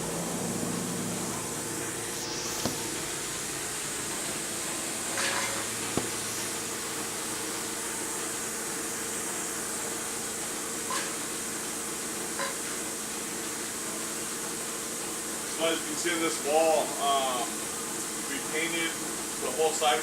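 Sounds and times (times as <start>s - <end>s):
mechanical hum and hiss: 0.0s - 20.0s.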